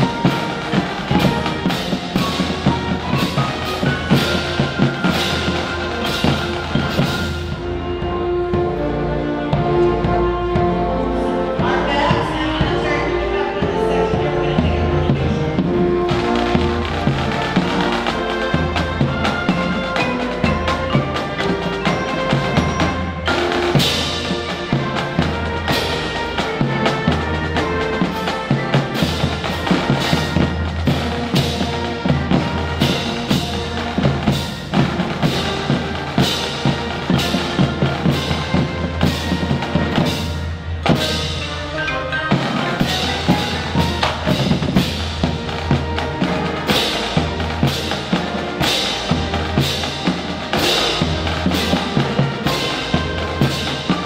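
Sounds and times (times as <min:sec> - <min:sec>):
drum kit beat: 0:00.0 - 0:11.0, 0:11.6 - 0:54.0.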